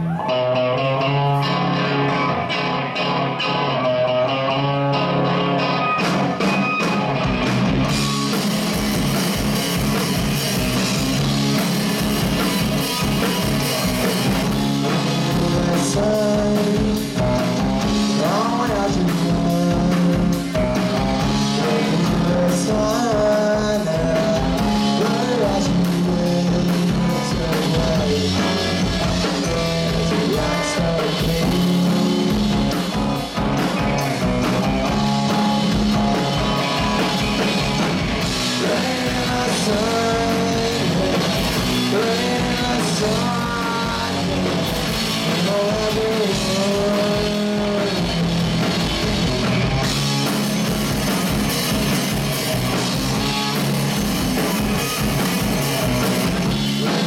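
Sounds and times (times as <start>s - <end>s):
electric guitar: 0.0s - 57.0s
live rock band playing: 0.0s - 57.0s
drums and cymbals: 4.9s - 57.0s.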